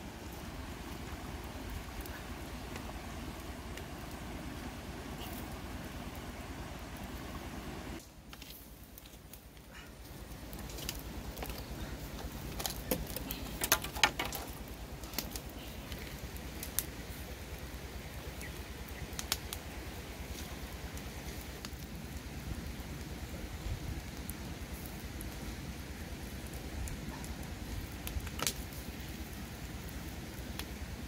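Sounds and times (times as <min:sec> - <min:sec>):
low background noise: 0:00.0 - 0:31.0
wood fire crackling and popping: 0:00.0 - 0:31.0.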